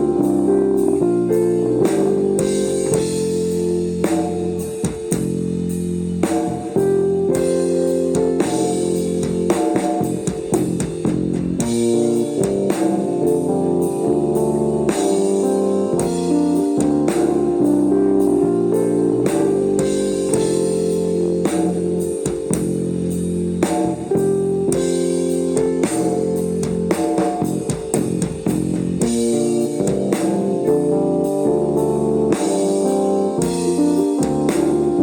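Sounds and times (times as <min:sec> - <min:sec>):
bass guitar: 0:00.0 - 0:35.0
drum kit: 0:00.0 - 0:35.0.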